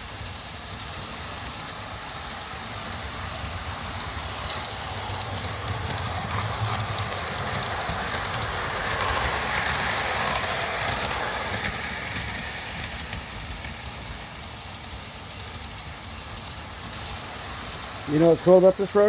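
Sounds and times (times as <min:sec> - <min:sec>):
model train wheels rumbling: 0:00.0 - 0:19.0.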